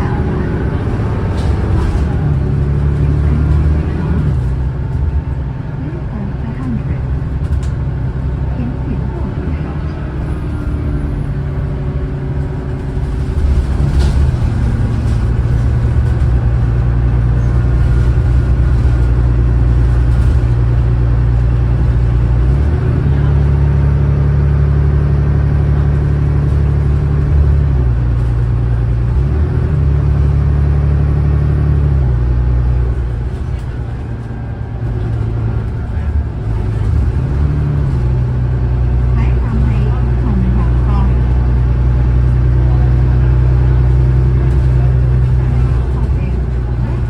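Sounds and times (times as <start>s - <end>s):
bus diesel engine revving: 0.0s - 47.0s.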